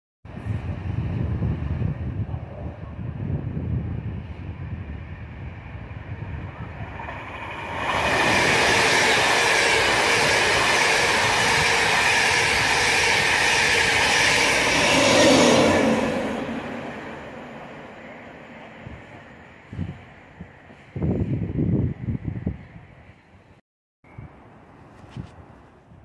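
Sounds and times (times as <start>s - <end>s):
train passing on rails: 0.3s - 26.0s.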